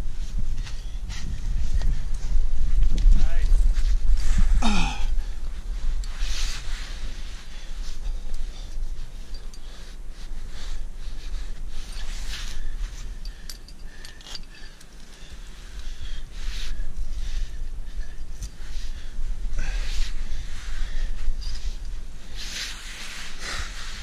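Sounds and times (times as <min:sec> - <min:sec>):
scuffs and rustles on rock: 0:00.0 - 0:24.0
wind rumbling on microphone: 0:00.0 - 0:24.0.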